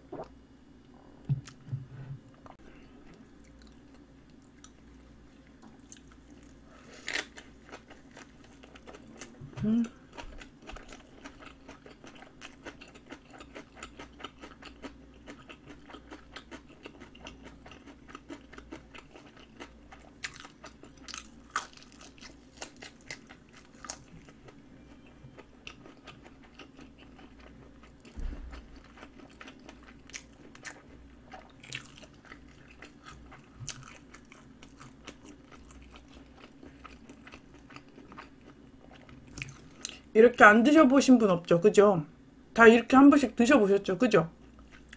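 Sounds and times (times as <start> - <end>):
faint steady hum: 0.0 - 44.9
chewing crunchy food: 2.4 - 40.1.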